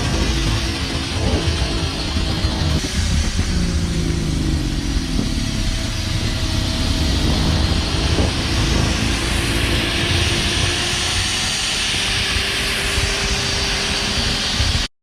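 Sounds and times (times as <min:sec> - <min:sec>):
engine running with low rumble: 0:00.0 - 0:14.9.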